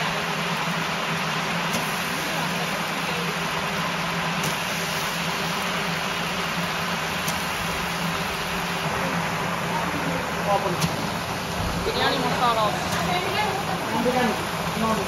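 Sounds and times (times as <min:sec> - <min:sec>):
gas burner roaring: 0:00.0 - 0:15.0
leaves sizzling in hot oil: 0:00.0 - 0:15.0.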